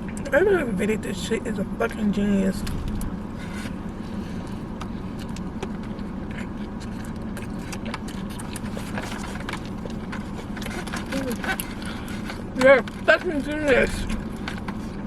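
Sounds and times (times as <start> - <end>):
car interior hum: 0.0 - 15.0
person chewing food: 2.6 - 15.0.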